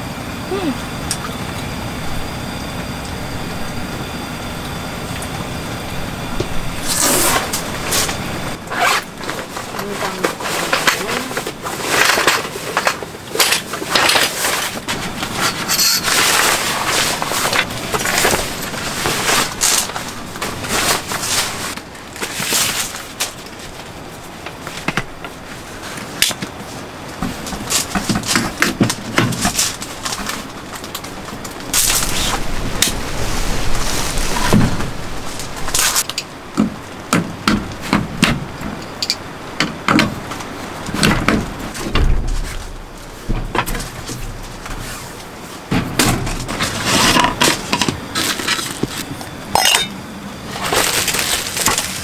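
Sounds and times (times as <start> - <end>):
fan heater whirring: 0.0 - 52.0
camp cot poles clattering: 6.8 - 52.0.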